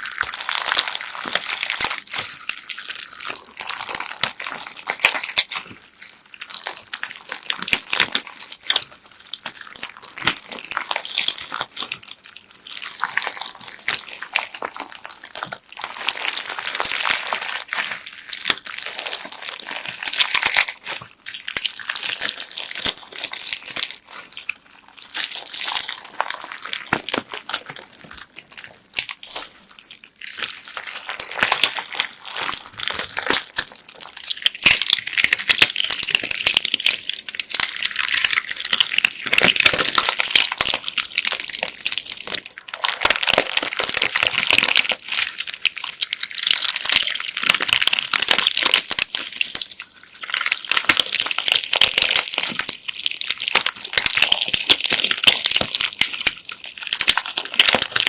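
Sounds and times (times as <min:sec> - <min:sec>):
beads crackling in squeezed slime: 0:00.0 - 0:58.0.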